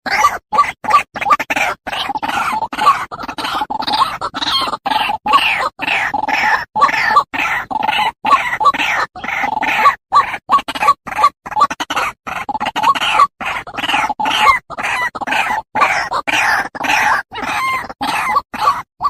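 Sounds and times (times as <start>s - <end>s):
rapid falling animal calls: 0.0s - 19.0s.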